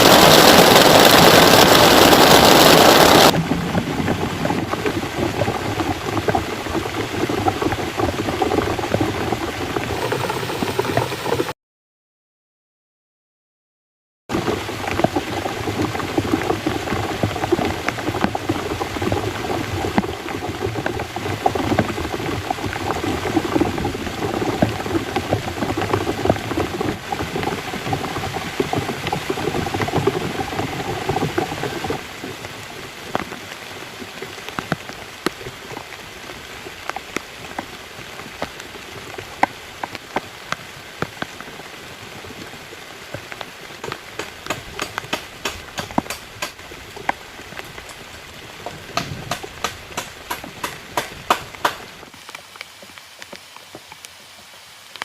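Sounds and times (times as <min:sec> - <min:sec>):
raindrops striking: 0:00.0 - 0:11.5, 0:14.3 - 0:55.0
heavy rain falling: 0:00.0 - 0:11.6, 0:14.3 - 0:55.0.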